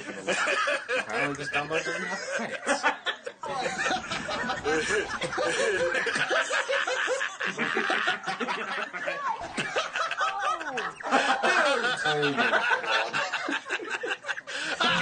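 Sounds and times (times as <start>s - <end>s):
men laughing together: 0.0s - 15.0s.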